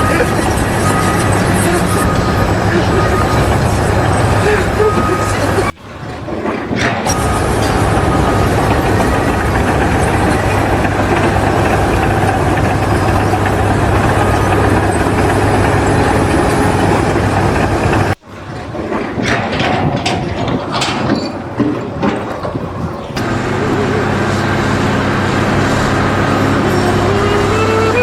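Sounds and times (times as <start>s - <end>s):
knocks and clicks: 0.0s - 23.5s
heavy engine humming: 0.0s - 28.0s.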